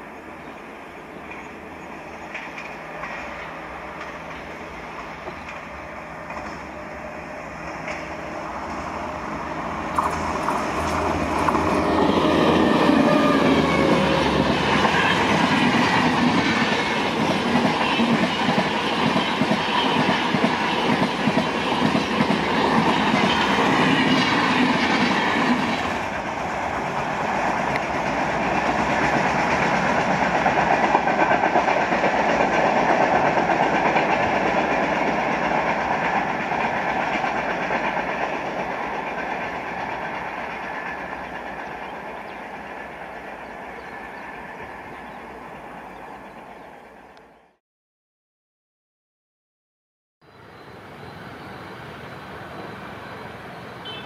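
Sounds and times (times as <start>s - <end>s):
train passing at speed: 0.0s - 47.6s, 50.2s - 54.0s.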